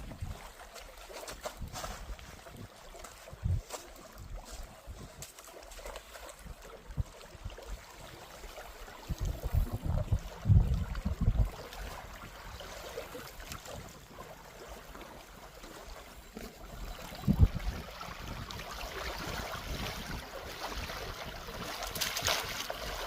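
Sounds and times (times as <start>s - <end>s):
water lapping: 0.0s - 23.0s.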